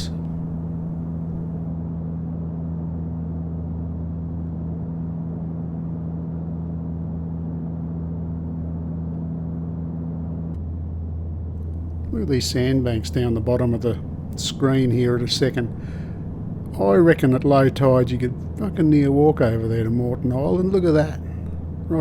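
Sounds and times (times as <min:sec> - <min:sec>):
airliner engine drone: 0:00.0 - 0:22.0
held hum tones: 0:00.0 - 0:22.0.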